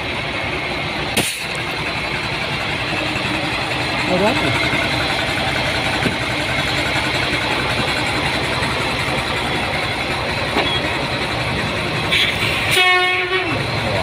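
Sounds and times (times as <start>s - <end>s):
lorry engine idling: 0.0s - 14.0s.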